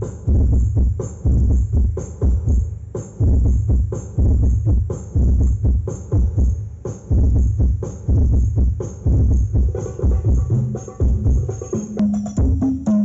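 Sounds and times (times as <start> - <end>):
loud electronic dance music: 0.0 - 13.0.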